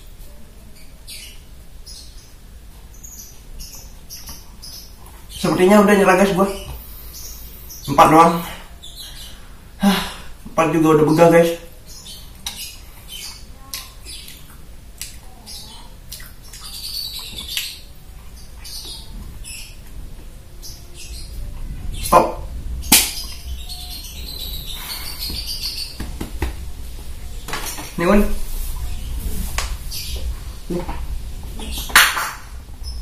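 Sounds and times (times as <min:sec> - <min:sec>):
birds chirping: 0:00.7 - 0:33.0.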